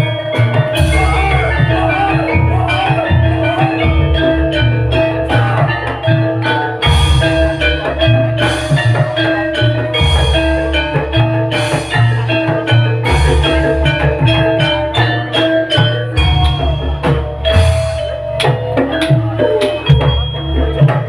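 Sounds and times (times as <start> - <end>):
drums steady beat: 0.0 - 21.0
metallophones playing melody: 0.0 - 21.0.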